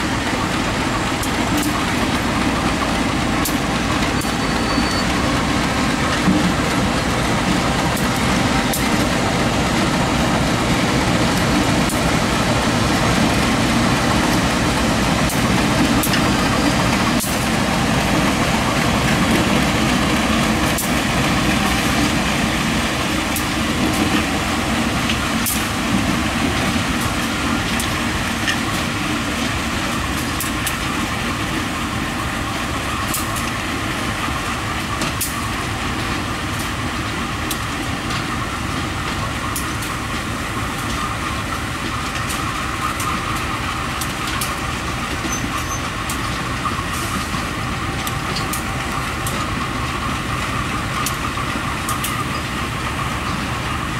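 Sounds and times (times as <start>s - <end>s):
diesel locomotive engines rumbling: 0.0s - 53.9s.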